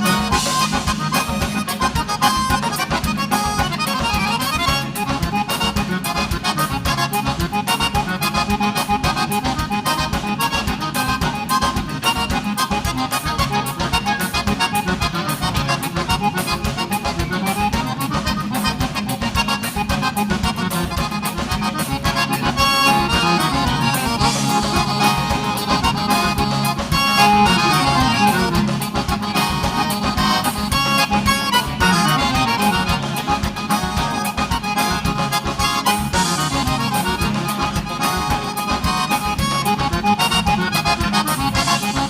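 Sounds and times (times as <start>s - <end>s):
accordion dance music: 0.0s - 42.0s.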